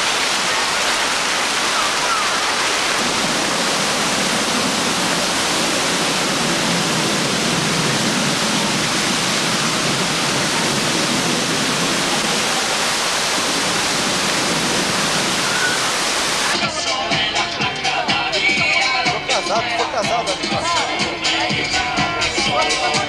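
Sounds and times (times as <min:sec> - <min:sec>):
waterfall rushing into pool: 0:00.0 - 0:23.0.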